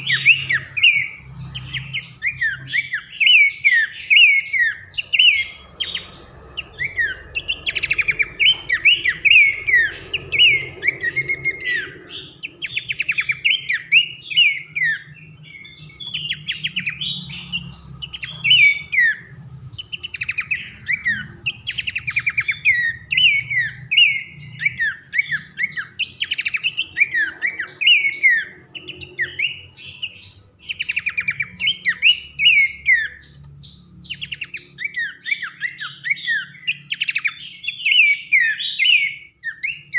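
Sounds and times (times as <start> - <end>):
babbler calling in sharp chirps: 0.0 - 39.9.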